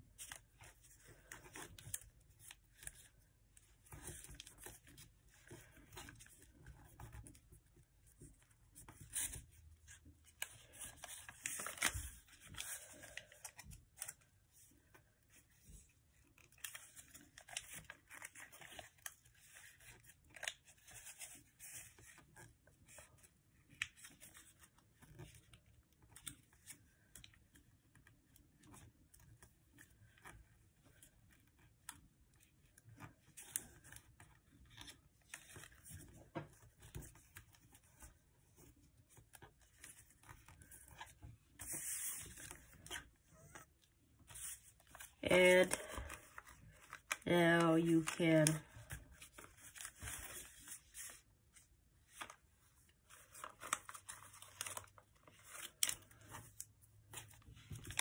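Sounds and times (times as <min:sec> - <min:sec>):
paper being folded: 0:00.0 - 0:58.0.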